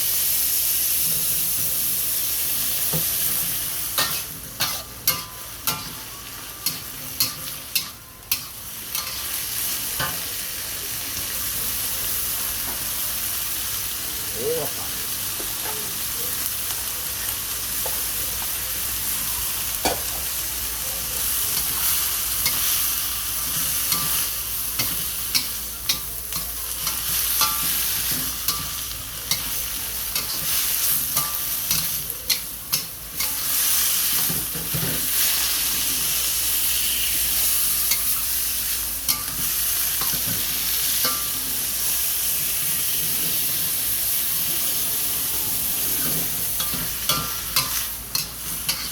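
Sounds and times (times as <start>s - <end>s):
food sizzling in a pan: 0.0s - 48.9s.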